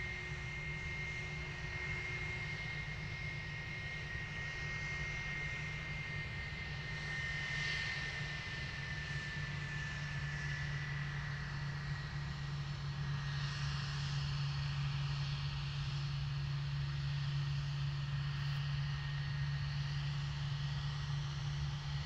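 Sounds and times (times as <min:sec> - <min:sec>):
jet engines running at low power: 0:00.0 - 0:22.0.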